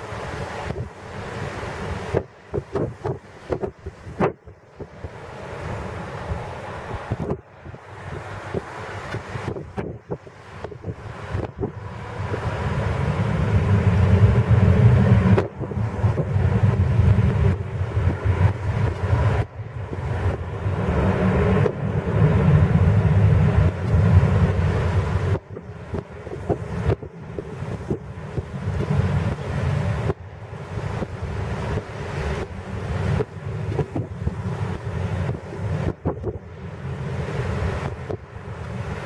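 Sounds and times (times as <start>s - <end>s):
jet engines roaring: 0.0s - 39.0s
wind buffeting microphone: 0.0s - 39.0s.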